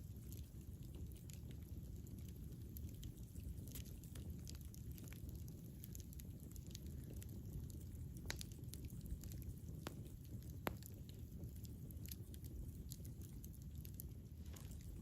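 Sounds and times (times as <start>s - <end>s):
burning wood crackling and popping: 0.0s - 15.0s
campfire flames rumbling: 0.0s - 15.0s.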